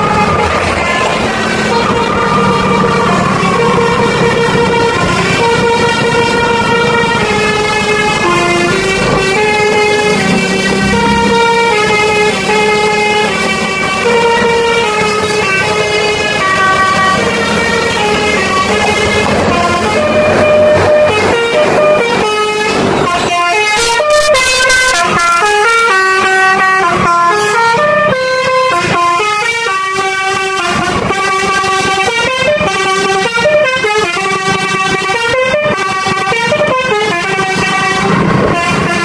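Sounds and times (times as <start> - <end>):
bus horn playing melody: 0.0 - 39.0
engine and road noise: 0.0 - 39.0.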